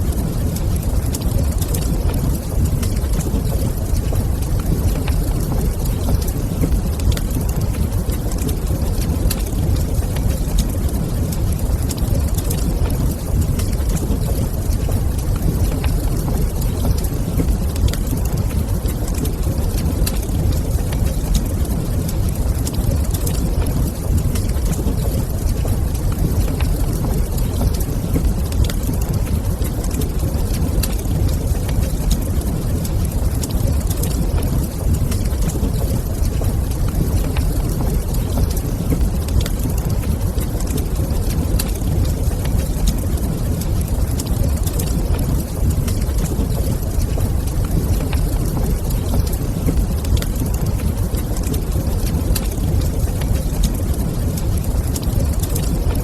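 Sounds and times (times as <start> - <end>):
fire crackling: 0.0 - 56.0
fire low rumble: 0.0 - 56.0.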